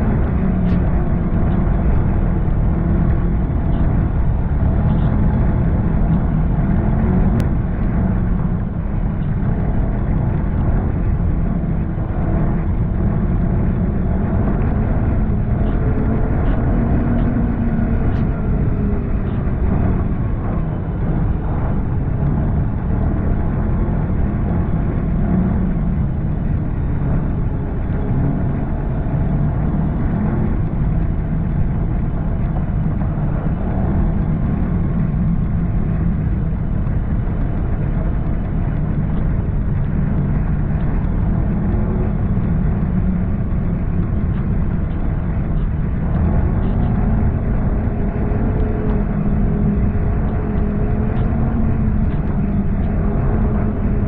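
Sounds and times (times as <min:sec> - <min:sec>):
snowmobile engine running: 0:00.0 - 0:54.0
steady rushing noise: 0:00.0 - 0:54.0.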